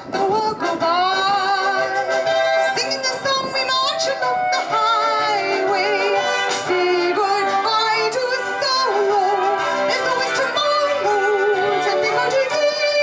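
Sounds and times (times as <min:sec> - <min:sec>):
instrumental backing music: 0:00.0 - 0:13.0
woman singing with vibrato: 0:00.0 - 0:13.0.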